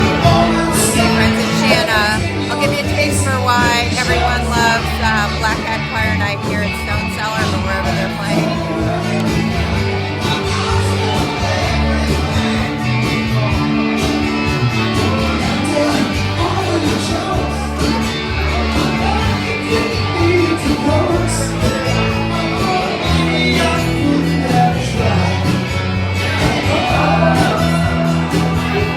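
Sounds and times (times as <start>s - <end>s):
person singing: 0.0s - 28.9s
rock band playing: 0.0s - 28.9s.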